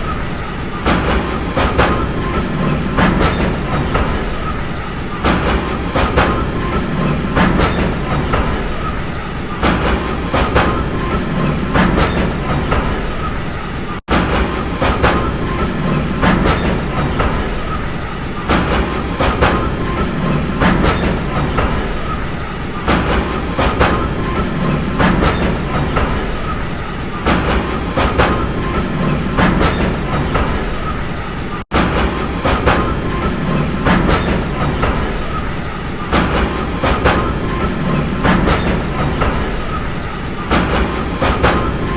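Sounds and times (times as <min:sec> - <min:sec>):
train rumbling: 0:00.0 - 0:41.9
wheels clacking over rail joints: 0:00.0 - 0:41.9.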